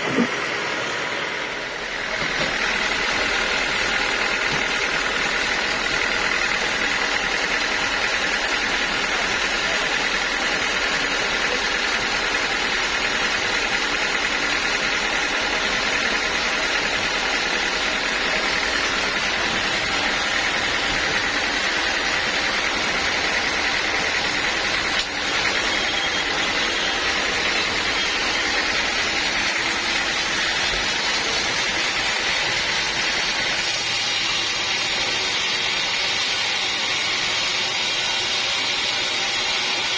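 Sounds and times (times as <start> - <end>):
band sawmill sawing wood: 0.0 - 39.9.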